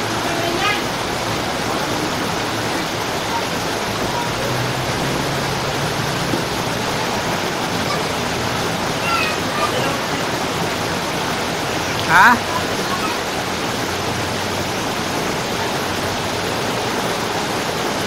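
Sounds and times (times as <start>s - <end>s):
heavy rain and floodwater rushing: 0.0s - 18.0s.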